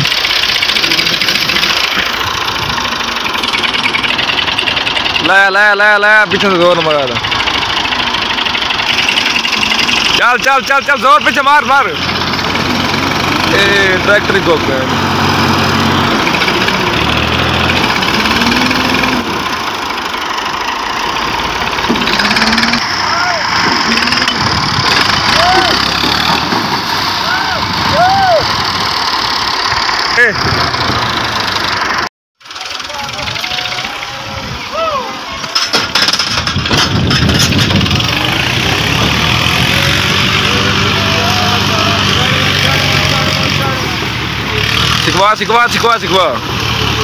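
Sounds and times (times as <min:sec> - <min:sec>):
diesel tractor engine chugging: 0:00.0 - 0:47.0.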